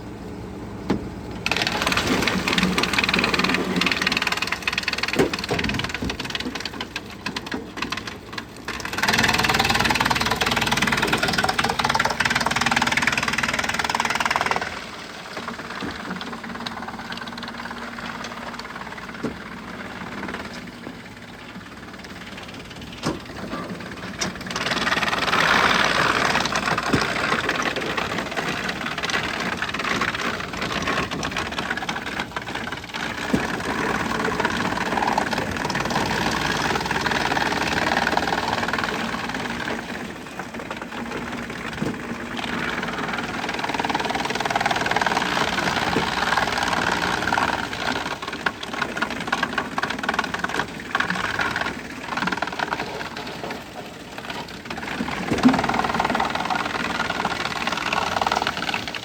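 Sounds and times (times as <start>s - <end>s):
wood chipper running: 0.0s - 59.0s
wood crackling being chipped: 1.4s - 20.9s, 21.7s - 59.0s.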